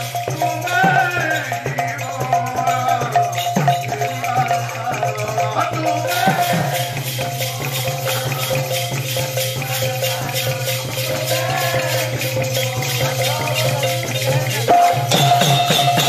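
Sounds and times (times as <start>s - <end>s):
barrel drum: 0.0s - 16.0s
jingling percussion: 0.0s - 16.0s.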